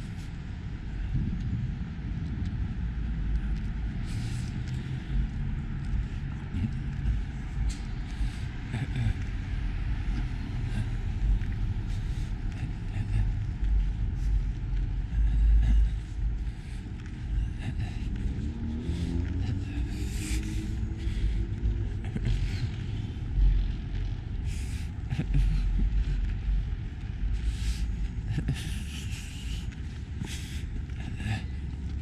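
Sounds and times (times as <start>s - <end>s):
footsteps on pavement: 0.0s - 32.0s
low rumble of traffic: 0.0s - 32.0s.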